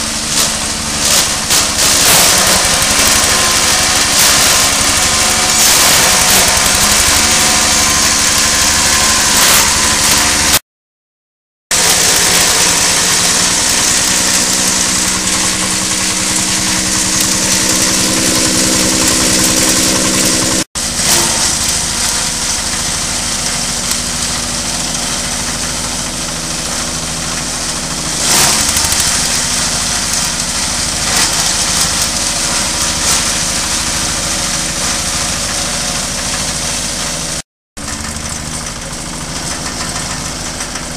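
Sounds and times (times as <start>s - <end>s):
chopper machinery hissing: 0.0s - 10.6s, 11.7s - 40.9s
small stationary engine running: 0.0s - 10.6s, 11.7s - 40.9s.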